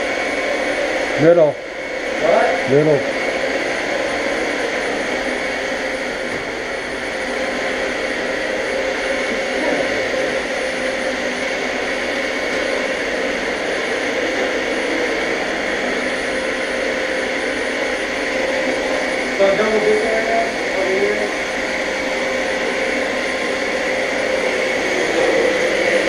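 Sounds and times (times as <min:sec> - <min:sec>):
vacuum cleaner whine: 0:00.0 - 0:26.0.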